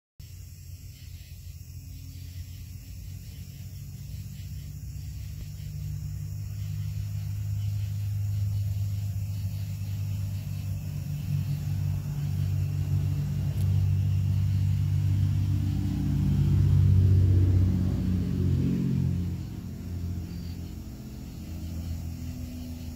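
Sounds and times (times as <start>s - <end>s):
low motor rumble: 0.2s - 22.9s.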